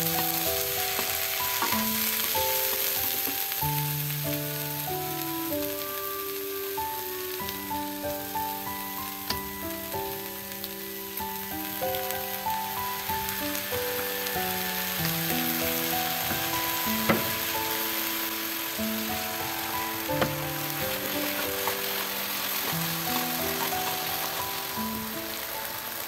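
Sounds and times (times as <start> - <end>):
green beans sizzling in a wok: 0.0 - 26.0
slow instrumental music: 0.0 - 26.0.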